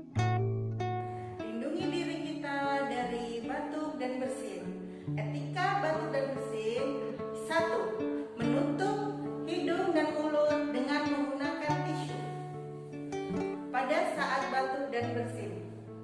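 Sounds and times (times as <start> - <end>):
plucked acoustic guitar music: 0.0 - 16.0.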